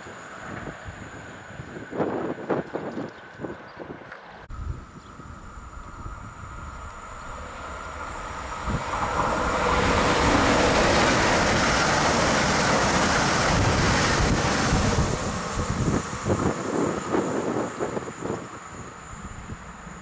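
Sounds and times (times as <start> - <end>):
train wheels rolling on rail: 0.0 - 4.5, 5.8 - 20.0.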